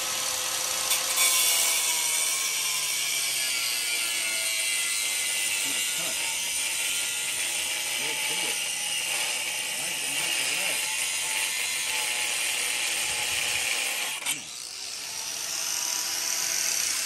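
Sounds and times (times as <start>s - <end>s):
angle grinder cutting steel: 0.0s - 17.0s.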